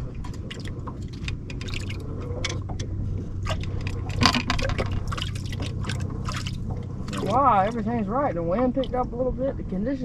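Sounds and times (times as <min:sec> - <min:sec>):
steady low hum: 0:00.0 - 0:10.0
waves lapping against hull: 0:00.0 - 0:10.0.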